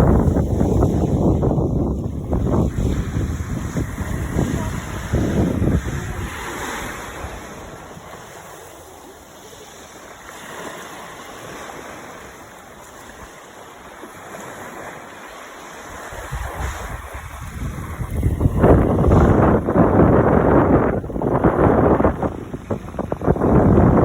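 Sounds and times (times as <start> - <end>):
sea waves washing on shore: 0.0 - 24.0.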